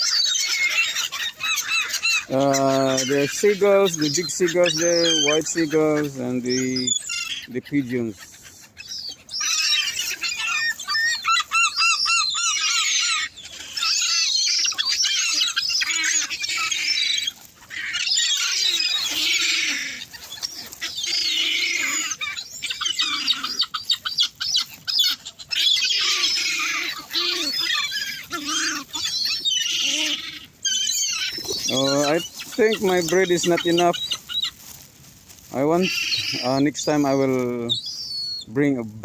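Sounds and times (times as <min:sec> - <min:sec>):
flock of gulls calling: 0:00.0 - 0:39.0.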